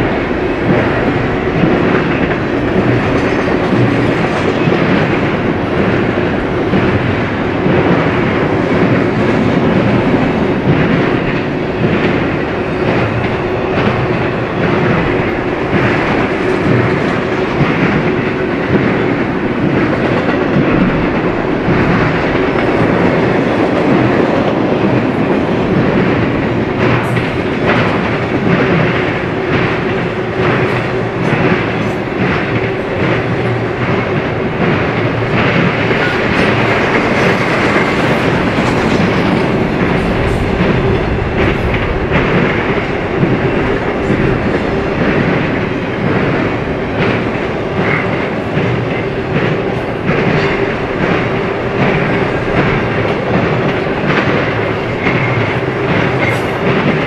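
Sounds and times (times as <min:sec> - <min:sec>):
freight train rumbling: 0:00.0 - 0:57.0
wheels clacking over rail joints: 0:00.0 - 0:57.0.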